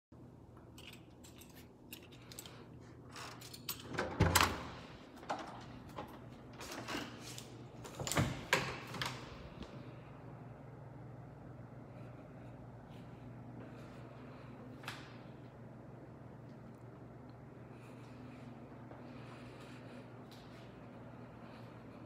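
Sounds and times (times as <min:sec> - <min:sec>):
low room hum: 0:00.1 - 0:22.0.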